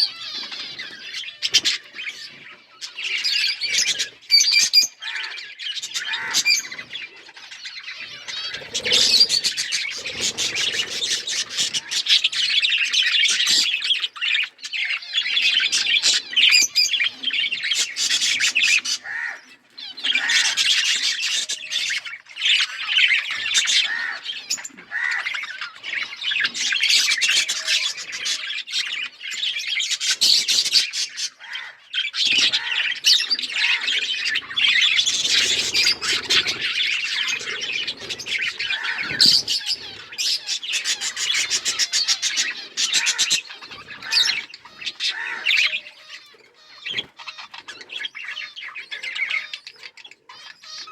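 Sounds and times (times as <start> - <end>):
budgerigars chirping and warbling: 0.0 - 50.9.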